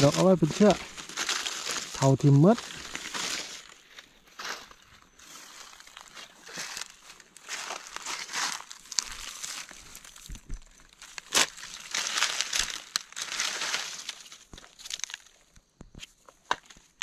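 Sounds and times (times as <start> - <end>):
dry leaves rustling and crinkling: 0.0 - 15.5.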